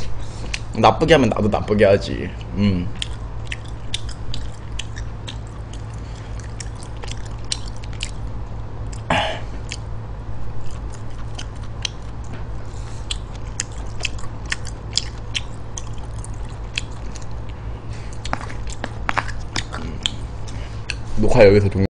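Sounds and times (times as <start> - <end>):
low hum: 0.0 - 21.9
wet chewing: 2.4 - 21.1.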